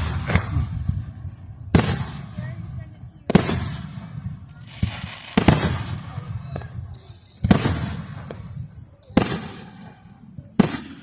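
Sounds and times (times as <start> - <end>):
fireworks shells booming: 0.0 - 11.0.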